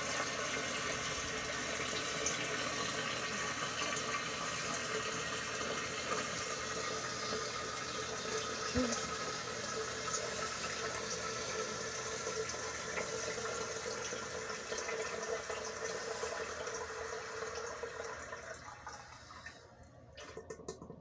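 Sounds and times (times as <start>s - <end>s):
toilet flushing: 0.0s - 21.0s.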